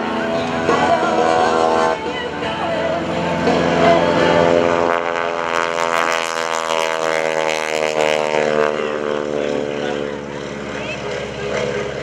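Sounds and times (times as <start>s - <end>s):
biplane engine drone: 0.0s - 12.0s.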